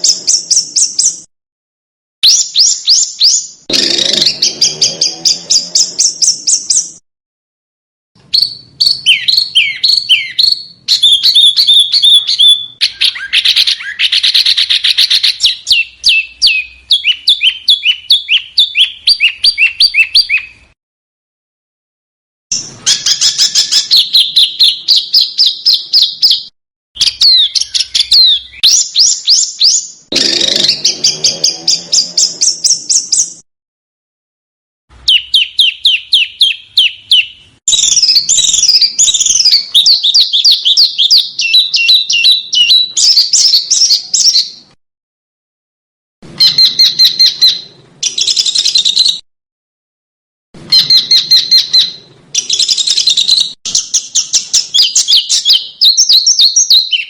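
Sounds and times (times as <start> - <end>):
songbird singing high chirps: 0.0 - 1.3, 2.2 - 7.0, 8.2 - 20.7, 22.5 - 33.4, 35.1 - 44.7, 46.4 - 49.2, 50.7 - 57.0.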